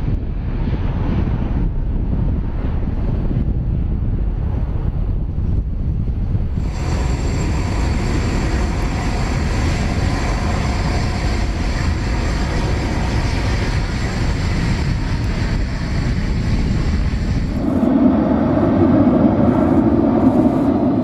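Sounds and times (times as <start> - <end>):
jet engines rumbling overhead: 0.0 - 21.0.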